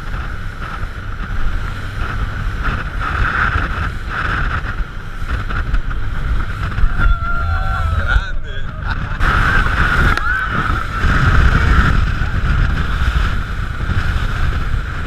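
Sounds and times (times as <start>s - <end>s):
speedboat engine drone: 0.0s - 15.0s
wind buffeting microphone: 0.0s - 15.0s.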